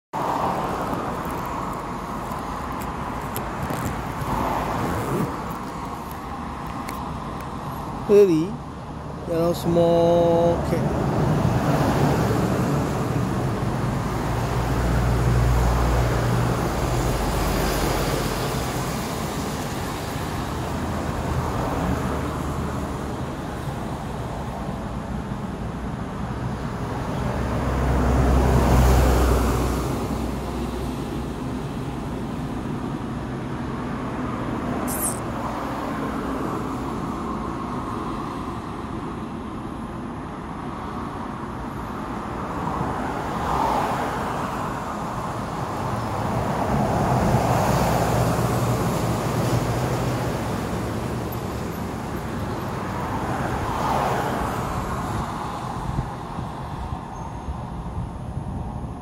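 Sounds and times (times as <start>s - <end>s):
highway traffic: 0.1s - 59.0s
vehicles passing: 0.2s - 59.0s.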